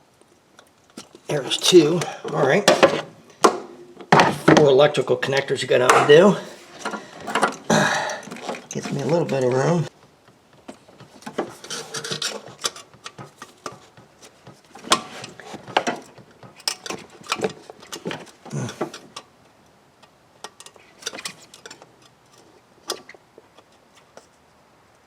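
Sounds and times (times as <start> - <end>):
hands rustling with wiring: 0.0 - 24.6.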